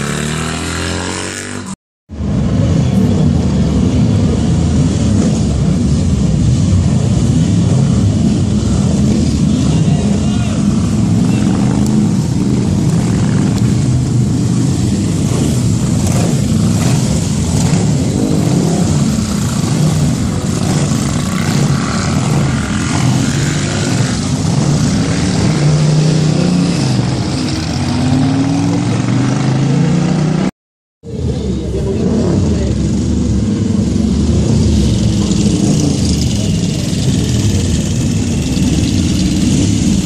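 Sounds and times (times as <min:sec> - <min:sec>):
motorcycle engines passing: 0:00.0 - 0:30.5, 0:31.1 - 0:40.0.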